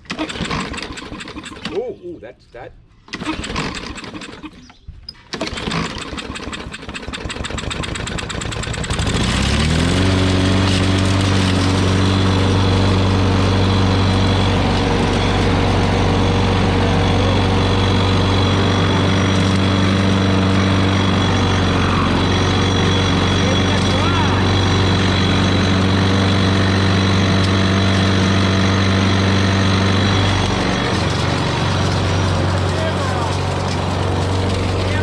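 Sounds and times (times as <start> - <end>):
lawn mower engine starting: 0.0 - 2.0, 3.0 - 35.0.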